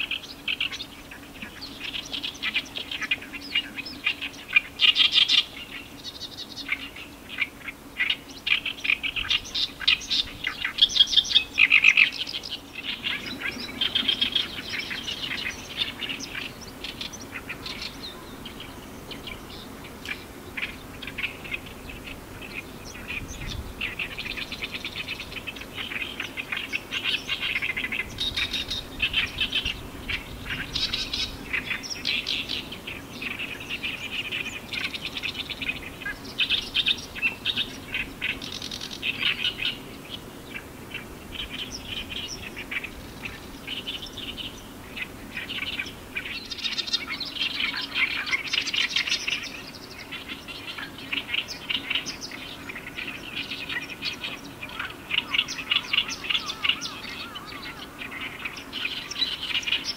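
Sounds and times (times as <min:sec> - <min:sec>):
reed warblers singing: 0:00.0 - 0:59.9.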